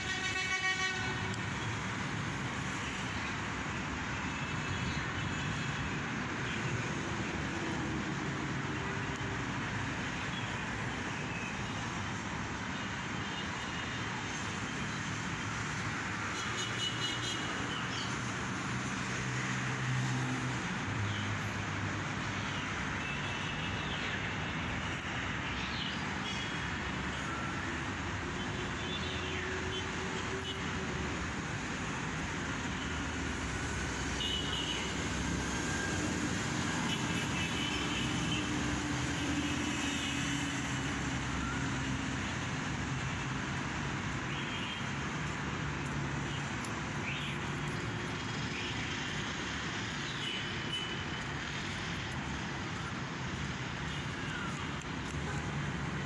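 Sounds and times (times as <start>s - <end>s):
street traffic hum: 0.0s - 56.0s.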